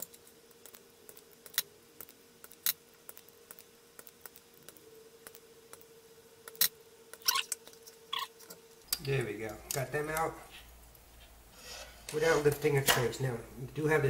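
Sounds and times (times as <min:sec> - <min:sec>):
desoldering iron hum: 0:00.0 - 0:14.0.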